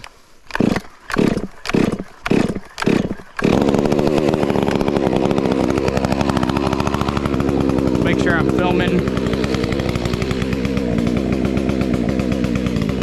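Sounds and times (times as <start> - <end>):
chainsaw starter cord yanked: 0.0 - 13.0
chainsaw engine running: 0.5 - 13.0.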